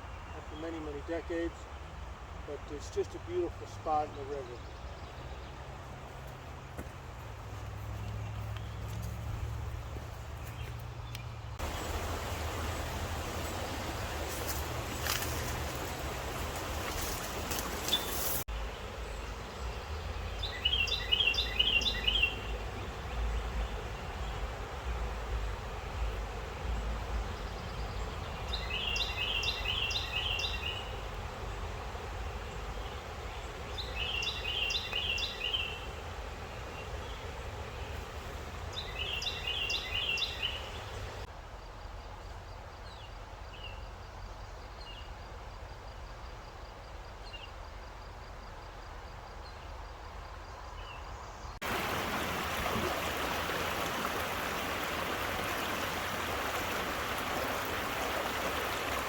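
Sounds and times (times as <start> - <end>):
songbird song phrase: 0.0 - 7.0, 7.8 - 59.0
river water running: 0.0 - 41.4, 50.6 - 59.0.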